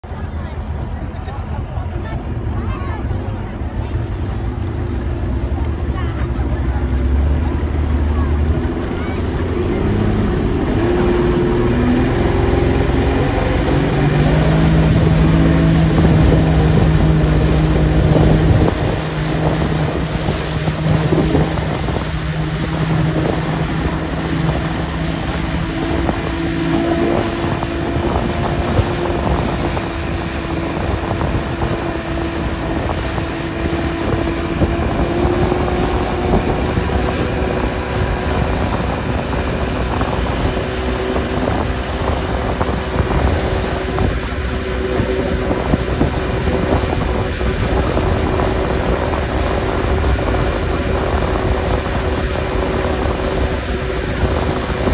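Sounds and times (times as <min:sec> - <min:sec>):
outboard motor revving: 0:00.0 - 0:54.9
water rushing past: 0:00.0 - 0:54.9
wind buffeting microphone: 0:00.0 - 0:54.9.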